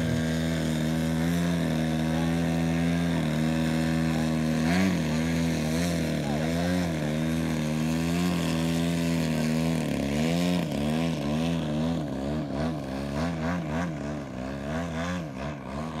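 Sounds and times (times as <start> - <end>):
model plane engine revving: 0.0 - 16.0.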